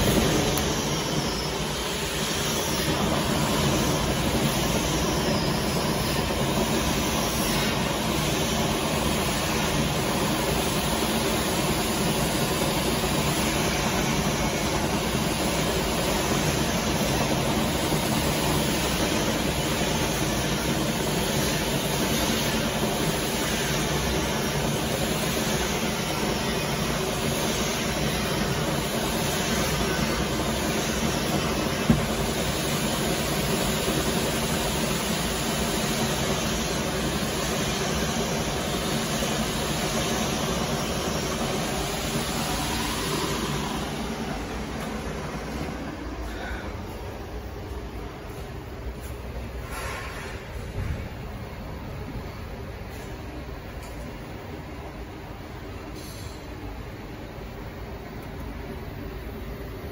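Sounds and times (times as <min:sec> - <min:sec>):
furnace conveyor mechanical drone: 0:00.0 - 0:59.9.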